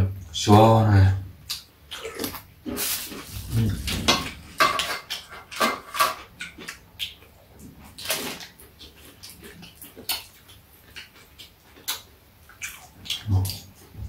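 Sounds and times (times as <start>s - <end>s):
chewing and lip-smacking: 1.4s - 14.0s.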